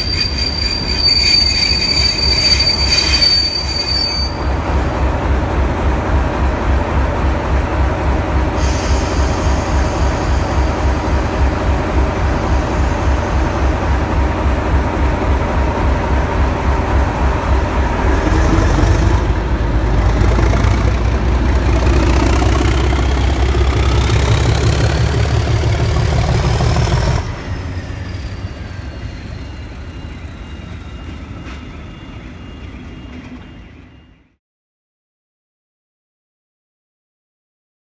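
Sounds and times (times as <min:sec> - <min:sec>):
diesel locomotive engine: 0:00.0 - 0:34.4.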